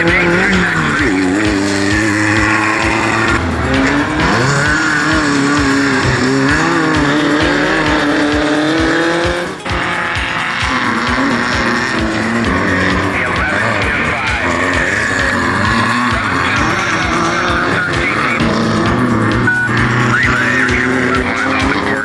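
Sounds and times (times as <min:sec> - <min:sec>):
background music with steady beat: 0:00.0 - 0:22.0
race car engine revving: 0:00.0 - 0:22.0.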